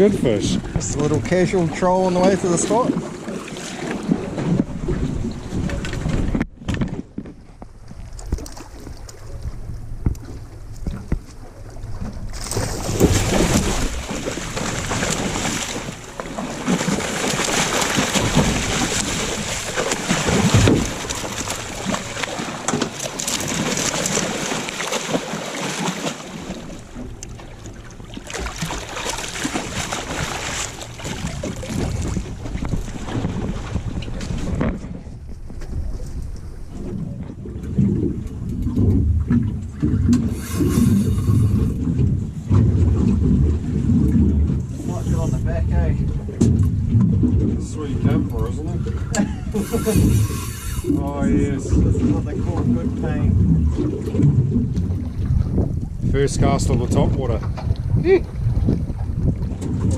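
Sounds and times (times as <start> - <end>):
wind buffeting microphone: 0.0 - 25.3, 26.4 - 59.9
water rushing along hull: 0.0 - 59.9.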